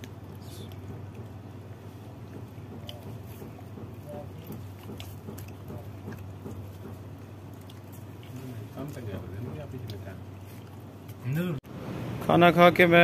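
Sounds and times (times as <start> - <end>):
faint chewing: 0.0 - 11.6
steady low hum: 0.0 - 13.0.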